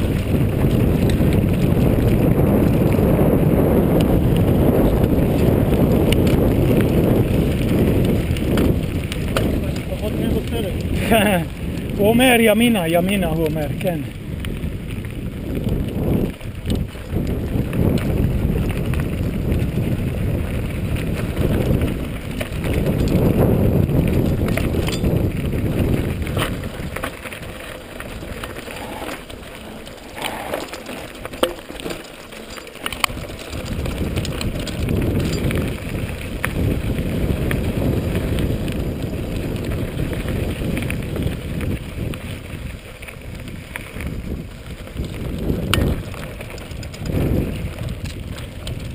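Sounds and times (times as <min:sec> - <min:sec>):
bike hitting stones: 0:00.0 - 0:48.9
tyres crunching on gravel: 0:00.0 - 0:48.9
wind rumbling on microphone: 0:00.0 - 0:48.9.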